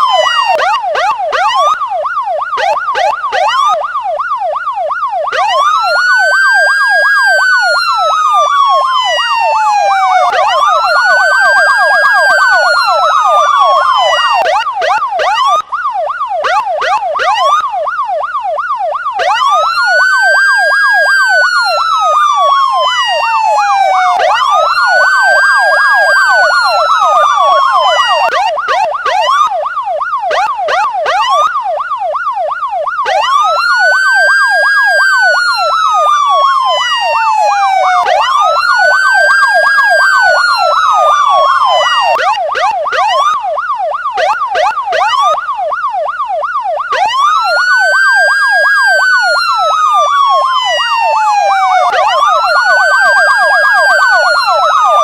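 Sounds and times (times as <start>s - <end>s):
police siren wail: 0.0s - 55.0s
police siren yelp: 0.0s - 55.0s.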